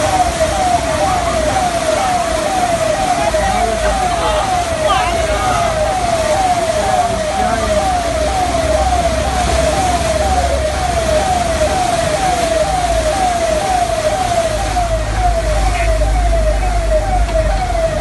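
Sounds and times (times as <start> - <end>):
churning floodwater: 0.0 - 18.0
electronic warning tone falling in pitch: 0.0 - 18.0.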